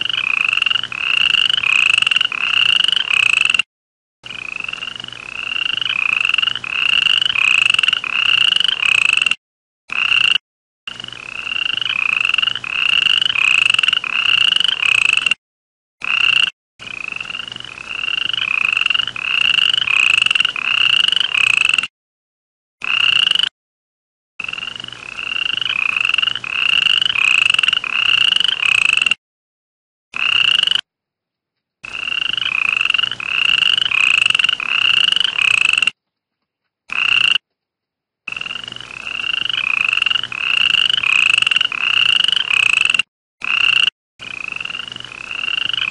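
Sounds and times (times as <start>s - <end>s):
frog chirping: 0.0s - 3.6s, 4.2s - 15.4s, 16.0s - 21.9s, 22.8s - 23.5s, 24.4s - 29.2s, 30.2s - 30.9s, 31.8s - 36.0s, 36.9s - 37.4s, 38.3s - 45.9s.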